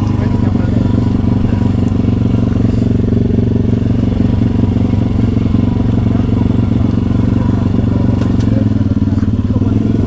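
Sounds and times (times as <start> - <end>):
motorbike engine idling: 0.0 - 10.0.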